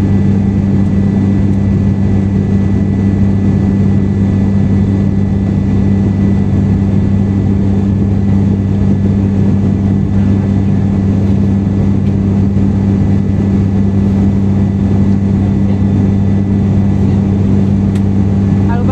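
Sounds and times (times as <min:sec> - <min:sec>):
airliner cabin drone: 0:00.0 - 0:18.9.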